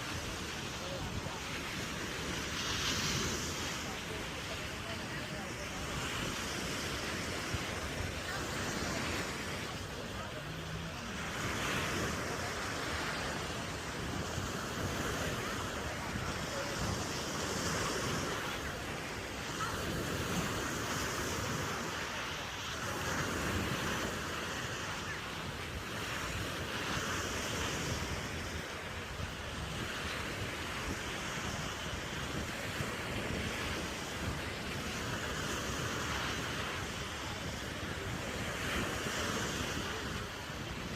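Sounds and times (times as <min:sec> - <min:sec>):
ocean surf on sandy beach: 0:00.0 - 0:40.9
wind on microphone: 0:00.0 - 0:40.9.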